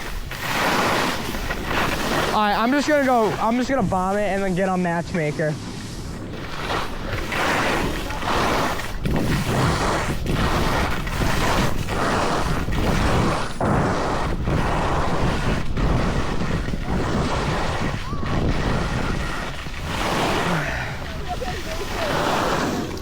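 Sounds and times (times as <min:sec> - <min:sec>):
skis scraping over snow: 0:00.0 - 0:23.0
wind rushing over microphone: 0:00.0 - 0:23.0.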